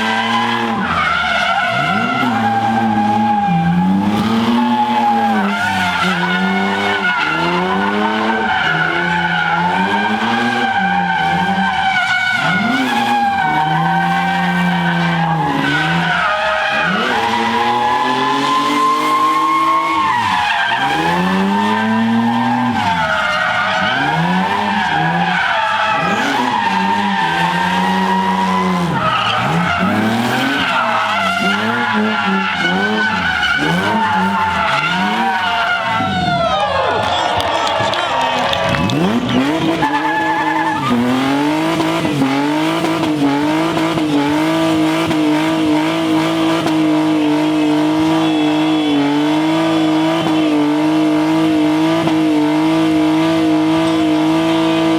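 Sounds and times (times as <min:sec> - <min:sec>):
tyres squealing: 0:00.0 - 0:52.2
car engine revving: 0:00.0 - 0:54.9.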